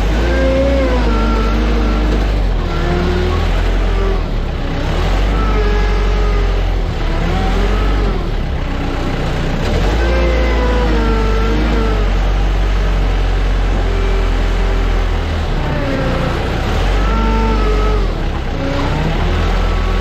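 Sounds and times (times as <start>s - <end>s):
ground vehicle engines running: 0.0s - 20.0s
heavy steady rumble: 0.0s - 20.0s.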